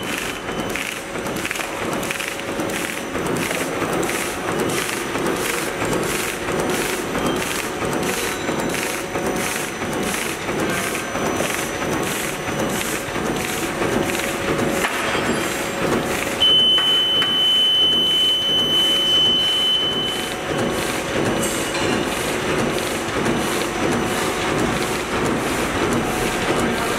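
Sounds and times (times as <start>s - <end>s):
bag-making machine clattering: 0.0s - 26.9s.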